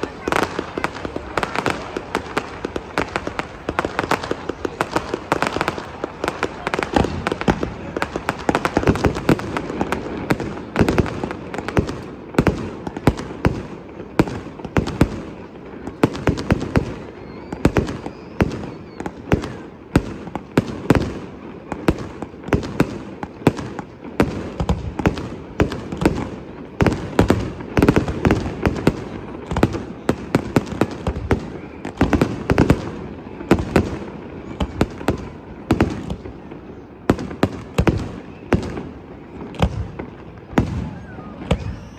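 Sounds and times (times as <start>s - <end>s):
fireworks rumble and crackle: 0.0s - 41.9s.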